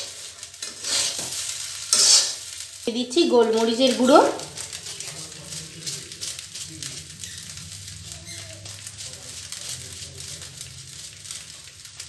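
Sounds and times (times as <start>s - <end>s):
fried rice sizzling: 0.0s - 12.0s.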